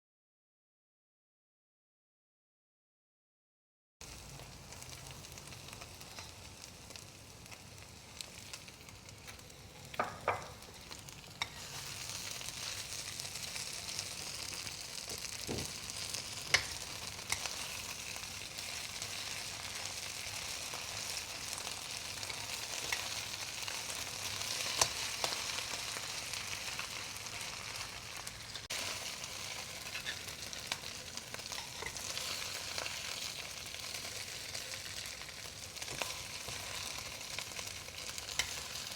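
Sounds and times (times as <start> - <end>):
food sizzling in hot oil: 4.0 - 38.9.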